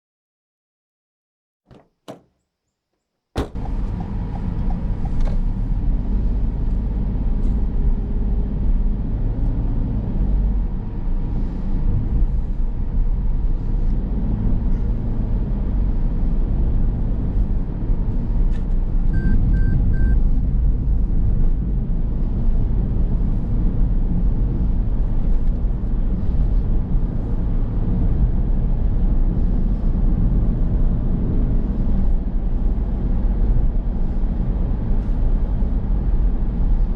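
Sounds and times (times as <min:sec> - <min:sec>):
car engine and road noise: 0:01.7 - 0:02.3, 0:03.4 - 0:36.9.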